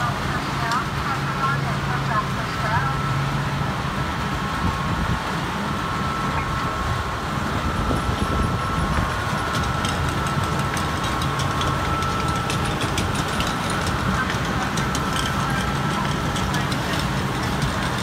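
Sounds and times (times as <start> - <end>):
high whine: 0.0 - 18.0
machinery hum: 0.0 - 18.0.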